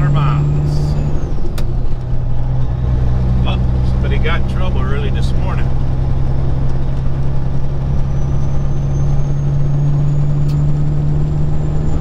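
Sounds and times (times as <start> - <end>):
diesel engine drone: 0.0 - 12.0
road noise: 0.0 - 12.0.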